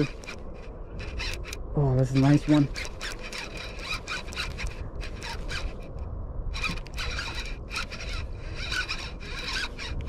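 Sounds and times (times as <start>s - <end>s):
fishing reel gears whirring: 0.0s - 10.0s.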